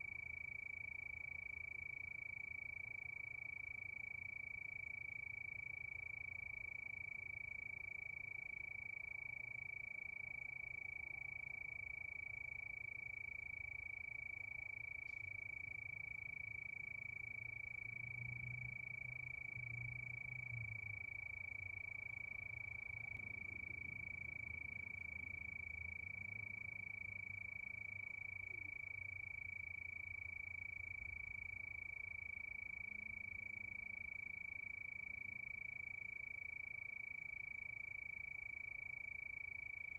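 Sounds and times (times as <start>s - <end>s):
crickets trilling: 0.2s - 39.9s.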